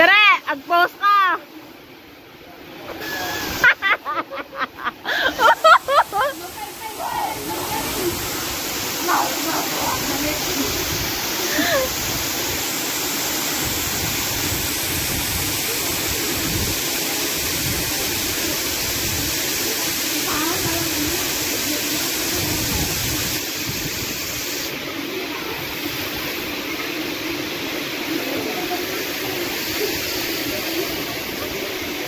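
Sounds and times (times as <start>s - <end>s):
waterfall and river rushing: 0.4s - 3.9s, 5.0s - 32.0s.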